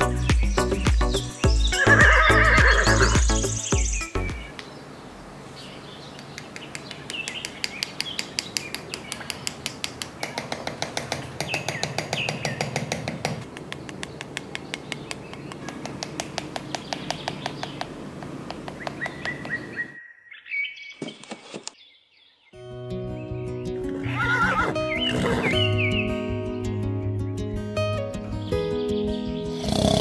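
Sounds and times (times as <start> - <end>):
birds chirping: 0.0 - 26.5, 28.3 - 30.0.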